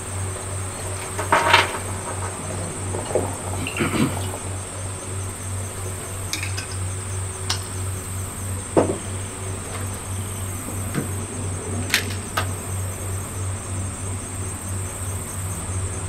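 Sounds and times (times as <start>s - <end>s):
insects chorus: 0.0s - 16.0s
low hum: 0.0s - 16.0s.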